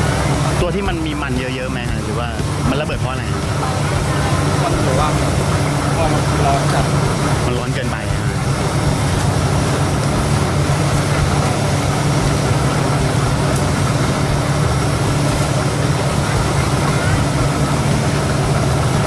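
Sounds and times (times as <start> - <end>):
constant hiss: 0.0 - 19.0
low machine hum: 0.0 - 19.0.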